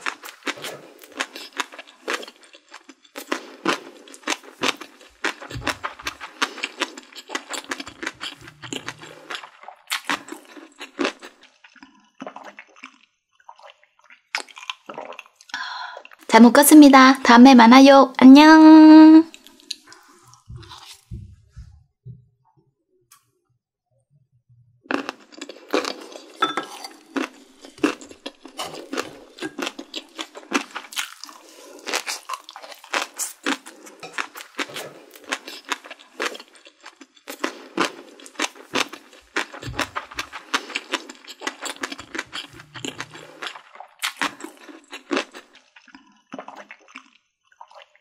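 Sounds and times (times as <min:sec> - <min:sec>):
person chewing food: 0:00.0 - 0:16.3, 0:19.3 - 0:21.9, 0:24.8 - 0:48.0.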